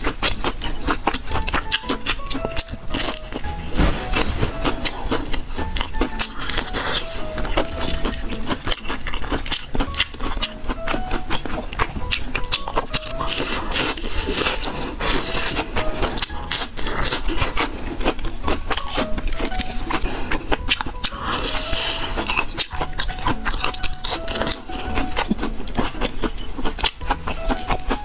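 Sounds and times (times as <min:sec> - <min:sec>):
crunching and chewing fried food: 0:00.0 - 0:28.0.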